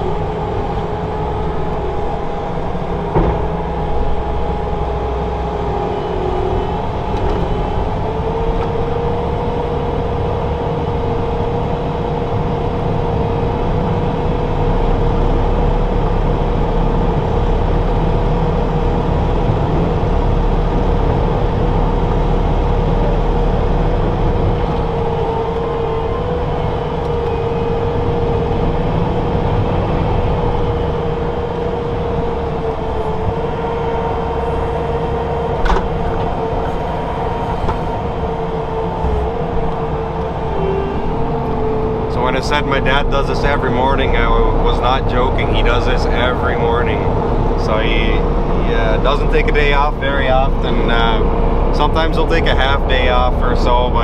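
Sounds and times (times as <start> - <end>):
constant whine: 0.0 - 54.0
engine rumble: 0.0 - 54.0.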